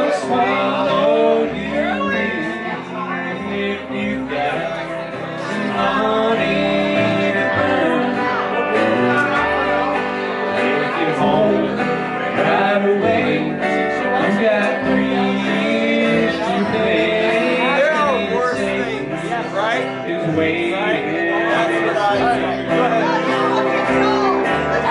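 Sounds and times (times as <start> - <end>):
man singing: 0.0 - 23.9
country band playing live: 0.0 - 24.9.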